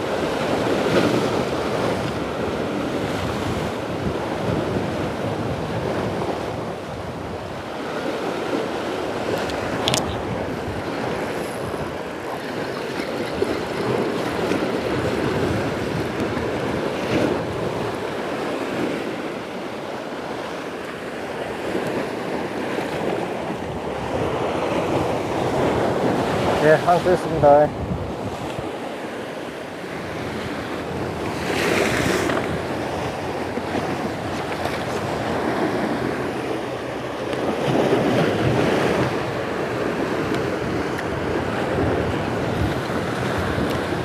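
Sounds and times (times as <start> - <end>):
waves washing against rocks: 0.0 - 44.0
wind buffeting microphone: 0.0 - 44.0.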